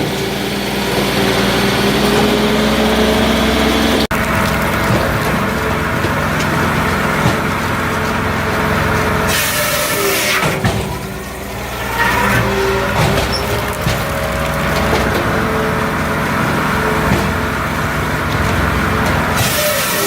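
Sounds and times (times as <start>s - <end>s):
firewood processor engine humming: 0.0s - 20.0s.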